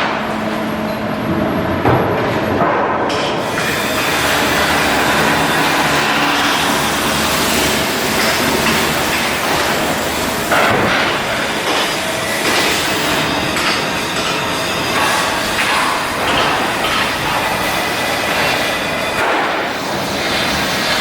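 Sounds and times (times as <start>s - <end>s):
industrial machinery noise: 0.0s - 21.0s.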